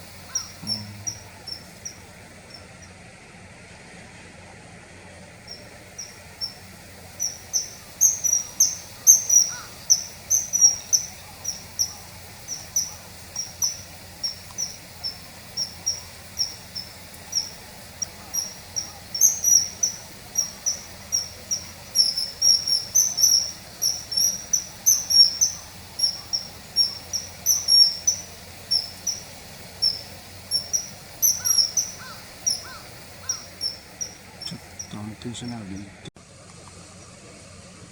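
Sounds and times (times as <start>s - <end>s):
kingfisher high whistled calls: 0.0s - 2.8s, 5.5s - 35.8s.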